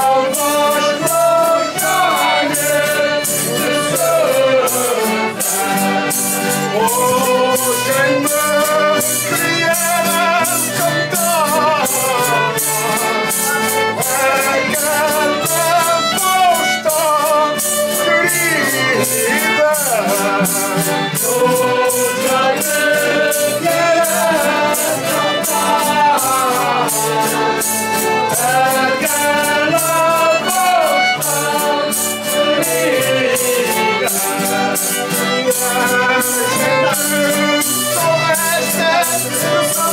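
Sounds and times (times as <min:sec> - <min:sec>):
accordion: 0:00.0 - 0:39.9
group singing folk song: 0:00.0 - 0:39.9
percussion beat: 0:00.0 - 0:39.9.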